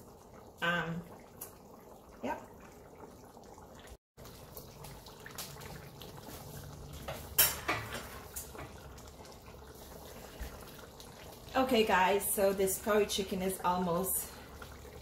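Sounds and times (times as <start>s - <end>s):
pot simmering and bubbling: 0.0s - 15.0s.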